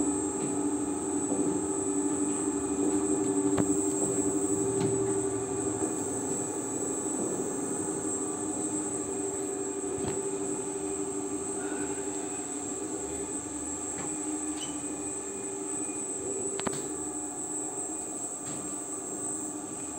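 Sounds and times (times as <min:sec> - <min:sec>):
high whine: 0:00.0 - 0:17.5
oil press machines humming: 0:00.0 - 0:19.9.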